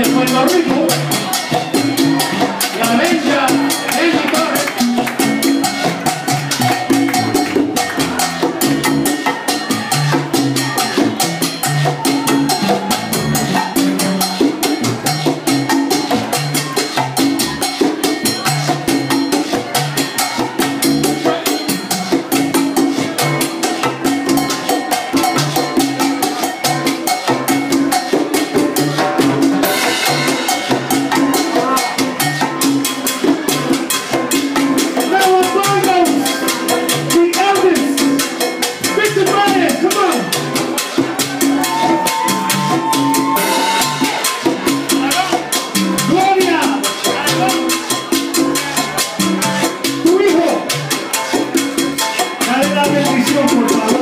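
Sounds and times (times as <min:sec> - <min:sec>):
percussion: 0:00.0 - 0:54.0
repeating bass line: 0:00.0 - 0:54.0
salsa band playing: 0:00.0 - 0:54.0.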